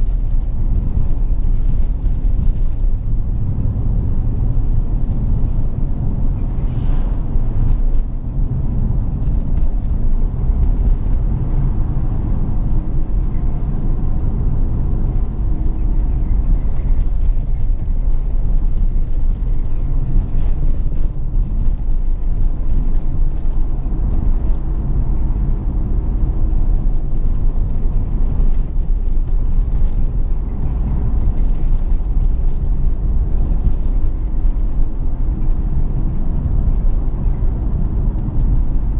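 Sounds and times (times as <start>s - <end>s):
car engine low rumble: 0.0s - 38.9s.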